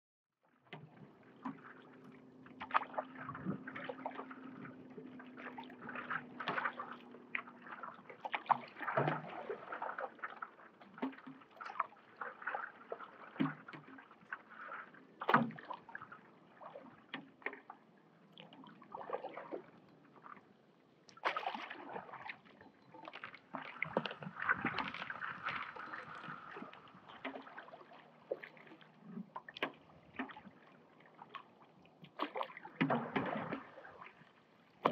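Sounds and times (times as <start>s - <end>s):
paddle splashing in water: 0.6s - 34.9s.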